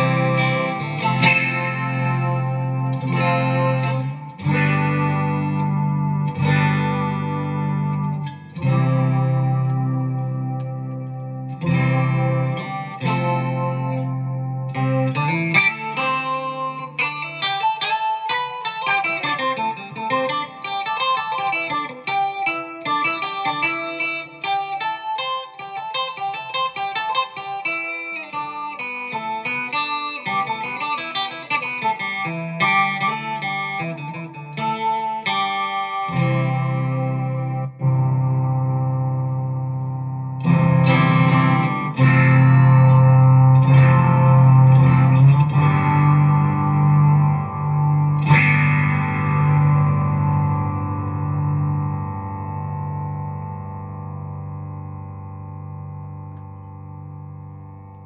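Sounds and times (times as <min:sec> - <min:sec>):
electric guitar synth notes: 0:00.0 - 0:58.0.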